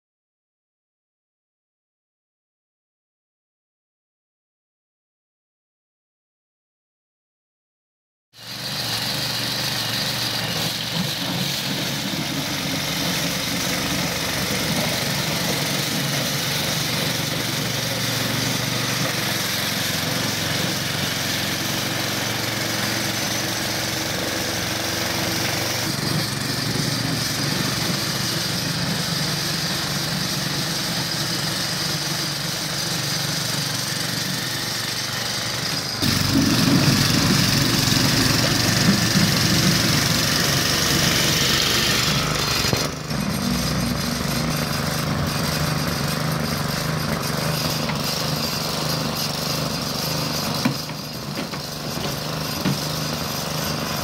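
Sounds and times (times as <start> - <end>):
rotary brush sweeping tarmac: 8.4 - 54.0
small petrol engine running: 8.4 - 54.0.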